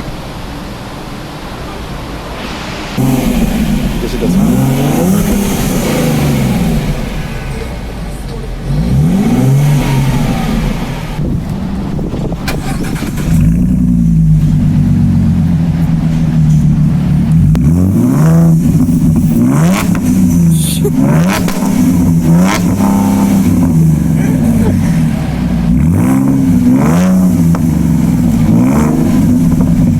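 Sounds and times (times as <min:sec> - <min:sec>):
loud car exhaust revving: 0:01.5 - 0:29.9.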